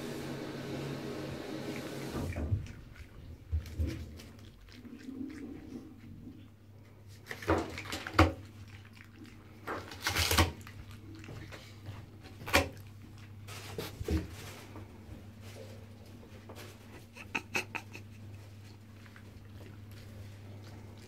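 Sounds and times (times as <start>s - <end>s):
low steady hum: 2.1s - 21.0s.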